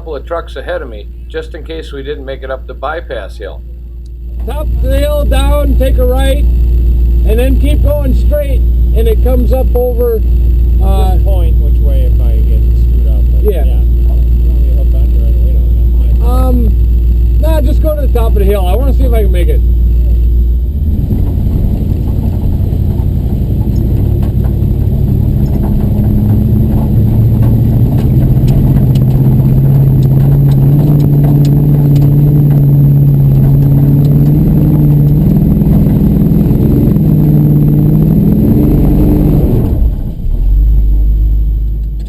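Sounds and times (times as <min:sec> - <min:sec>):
truck engine working hard: 0:00.0 - 0:42.0.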